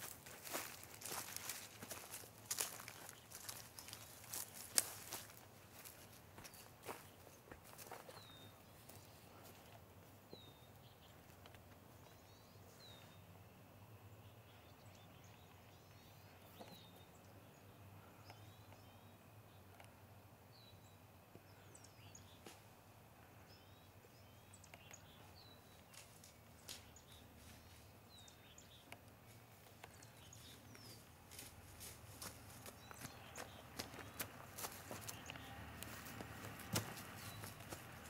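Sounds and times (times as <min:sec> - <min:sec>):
birds chirping and trilling: 0:00.0 - 0:22.5, 0:23.1 - 0:38.0.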